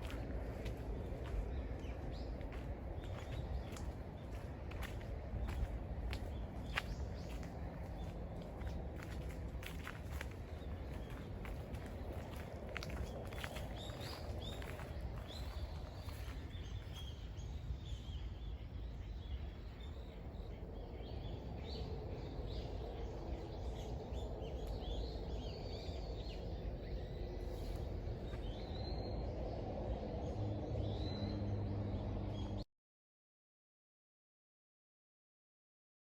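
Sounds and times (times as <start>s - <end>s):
small birds chirping: 0.0s - 32.6s.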